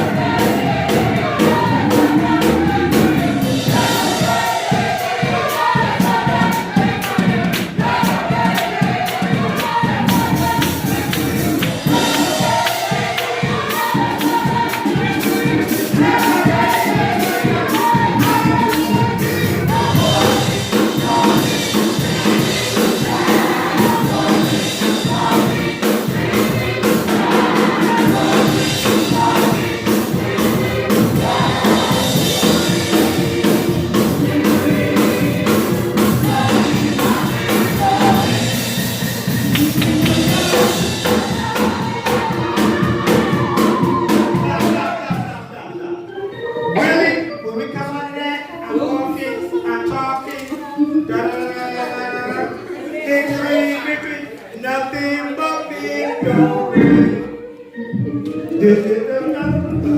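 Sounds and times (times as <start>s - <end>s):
instrumental accompaniment with beat: 0.0s - 48.0s, 56.0s - 59.9s
gospel choir singing: 0.0s - 59.9s.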